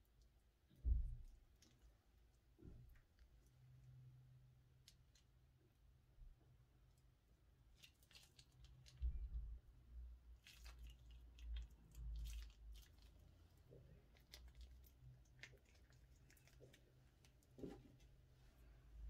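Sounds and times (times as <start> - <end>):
slime squishing: 0.0 - 18.4.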